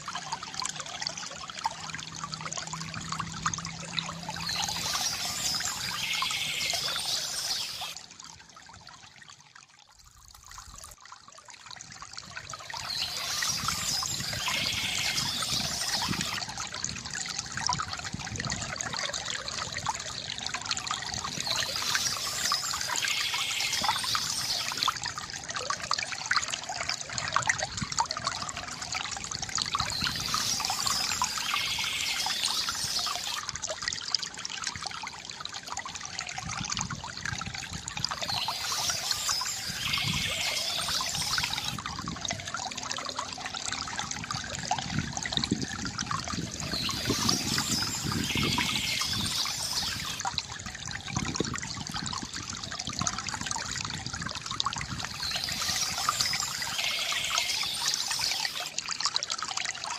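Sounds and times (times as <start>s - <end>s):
fountain water gurgling: 0.0s - 59.9s.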